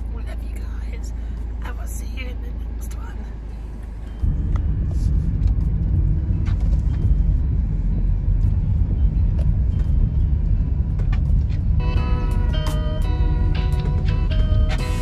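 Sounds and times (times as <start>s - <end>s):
van engine and road rumble: 0.0s - 15.0s.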